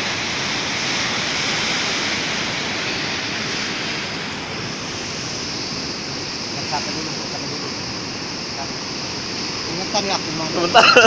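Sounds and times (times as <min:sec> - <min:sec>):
sea rushing: 0:00.0 - 0:11.0.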